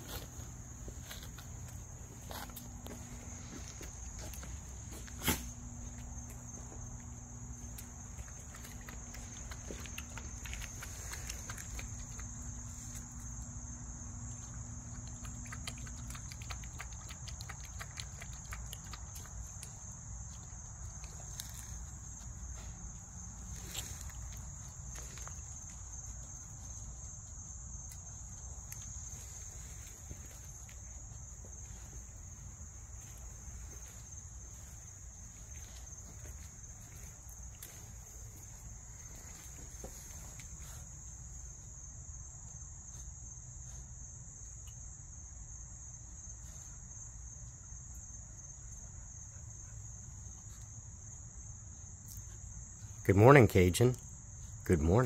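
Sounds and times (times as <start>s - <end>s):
night insects trilling: 0.0s - 55.0s.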